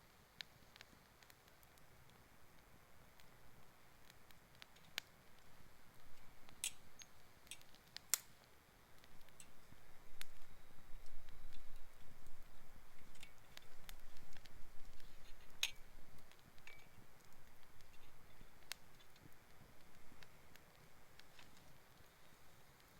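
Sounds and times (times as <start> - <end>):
campfire crackling: 0.0 - 22.9.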